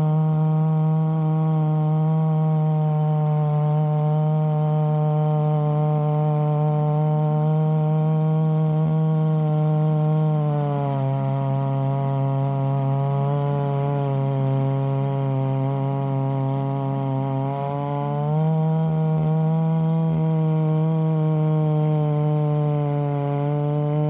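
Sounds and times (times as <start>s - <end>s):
chainsaw cutting a log: 0.0s - 24.0s.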